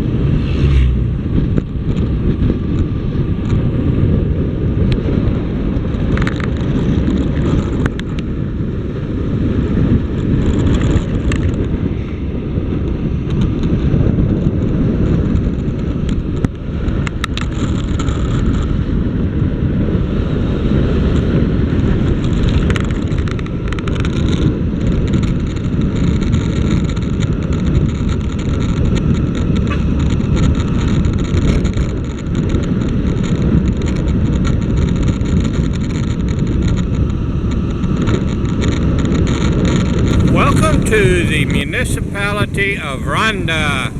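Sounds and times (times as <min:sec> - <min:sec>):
motorcycle road and engine noise: 0:00.0 - 0:14.4, 0:15.0 - 0:25.8, 0:26.4 - 0:40.8.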